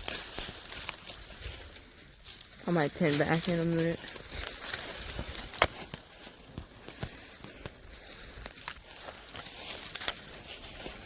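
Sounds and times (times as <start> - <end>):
footsteps through dry leaves: 0.0 - 11.0.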